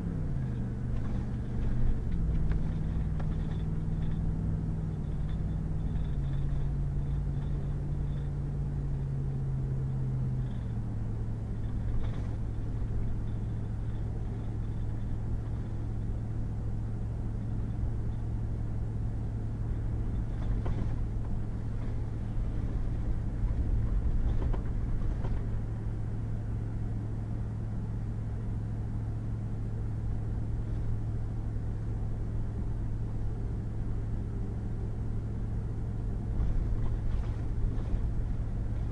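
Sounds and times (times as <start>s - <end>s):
road rumble: 0.0s - 38.9s
truck engine hum: 0.0s - 38.9s.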